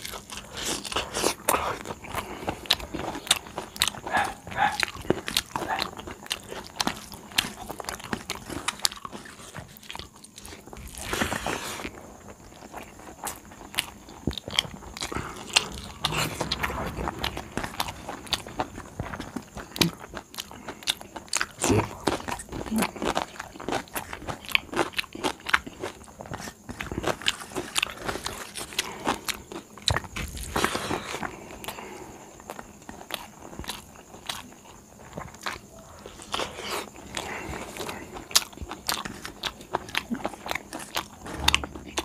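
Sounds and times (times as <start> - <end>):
person chewing: 0.0 - 42.0.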